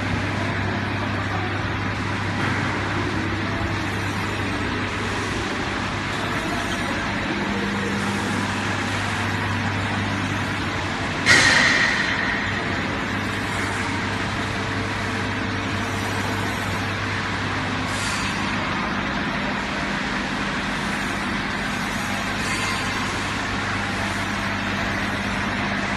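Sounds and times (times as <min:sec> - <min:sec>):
washing machine mechanical din: 0:00.0 - 0:25.9.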